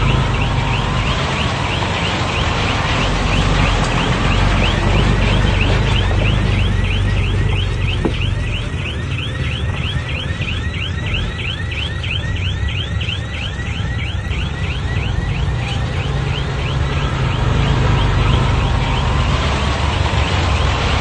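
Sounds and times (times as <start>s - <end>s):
bulldozer engine rumble: 0.0s - 21.0s.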